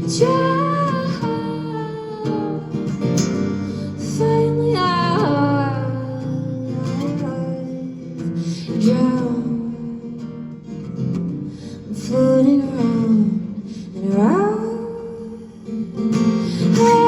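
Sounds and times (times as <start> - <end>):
sliding guitar melody: 0.0 - 17.0.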